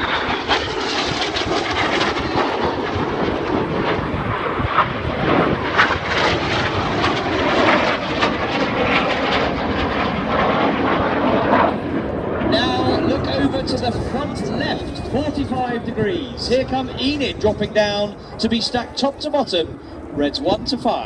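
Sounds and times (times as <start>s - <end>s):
jet engines flying low: 0.0s - 21.0s.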